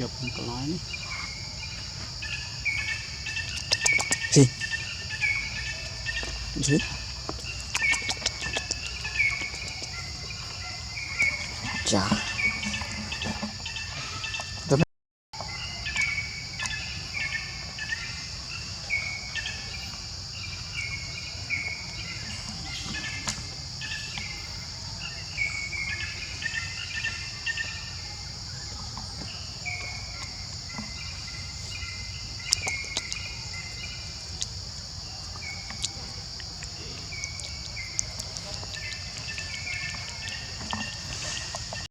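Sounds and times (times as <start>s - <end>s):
high insect drone: 0.0s - 14.8s, 15.4s - 41.9s.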